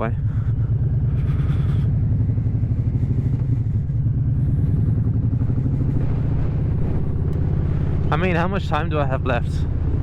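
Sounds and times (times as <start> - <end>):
motorcycle engine deep pulse: 0.0 - 10.0.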